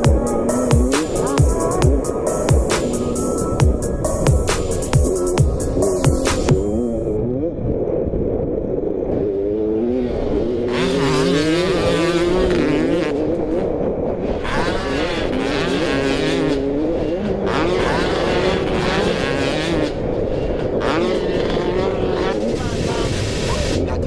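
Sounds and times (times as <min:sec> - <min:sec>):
motocross bike engine revving: 0:00.0 - 0:07.5, 0:09.1 - 0:24.0.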